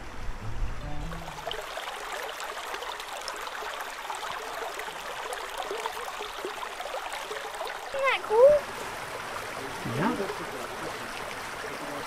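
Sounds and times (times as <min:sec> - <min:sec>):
creek babbling: 0:00.0 - 0:12.0.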